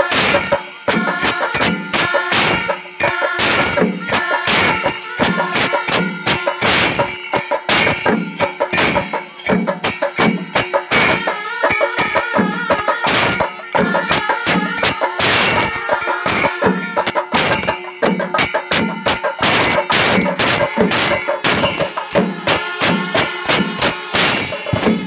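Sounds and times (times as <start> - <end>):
drums: 0.0 - 25.0
hand cymbals clashing: 0.0 - 25.0.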